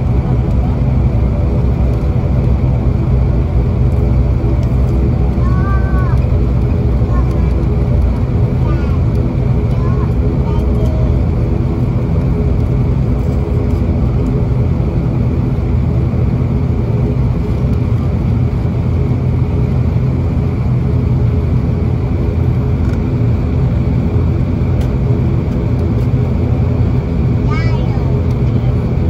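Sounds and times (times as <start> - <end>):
turboprop engine droning: 0.0 - 29.0.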